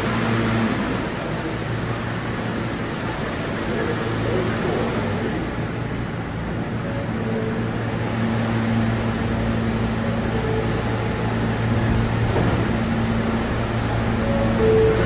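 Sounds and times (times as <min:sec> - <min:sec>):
subway train humming: 0:00.0 - 0:15.0.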